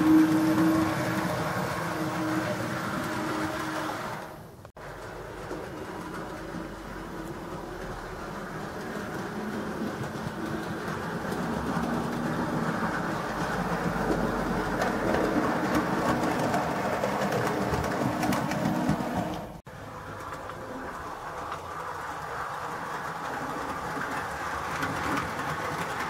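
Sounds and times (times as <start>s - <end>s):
model train running whirr: 0.0s - 26.0s
wheels clicking on rails: 0.0s - 26.0s.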